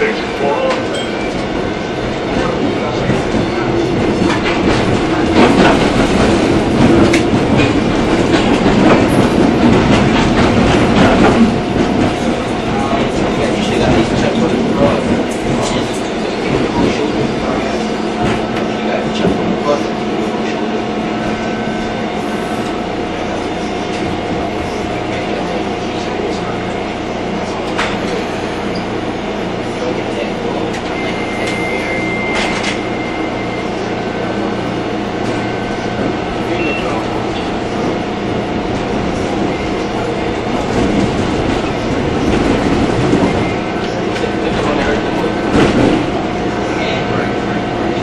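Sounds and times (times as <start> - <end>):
wheels rumbling on rail: 0.0 - 48.0.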